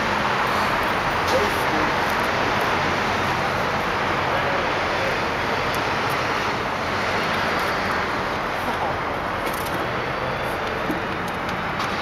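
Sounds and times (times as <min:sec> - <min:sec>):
traffic roar: 0:00.0 - 0:12.0.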